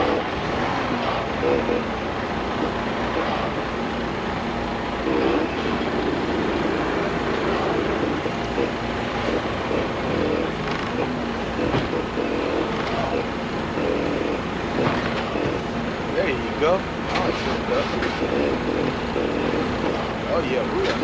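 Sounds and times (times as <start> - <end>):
diesel truck engine rumbling: 0.0 - 21.0.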